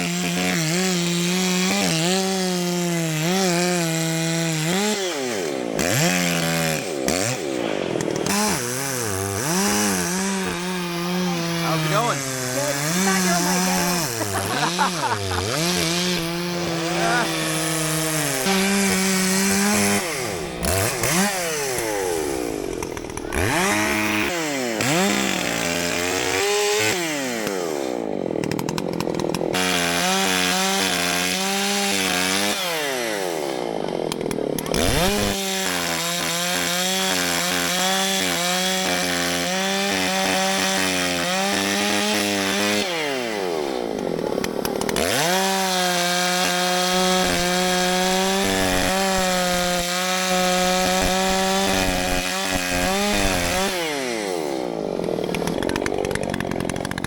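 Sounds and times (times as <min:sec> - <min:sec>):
chainsaw cutting tree trunks: 0:00.0 - 0:57.0.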